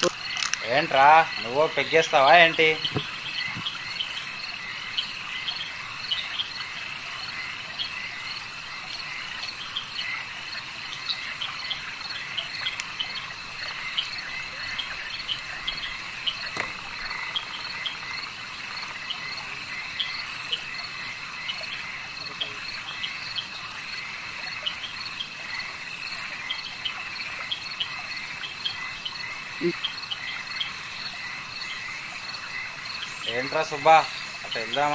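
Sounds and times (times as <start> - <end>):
crickets chirring: 0.0 - 34.9
frogs chirping: 0.0 - 34.9.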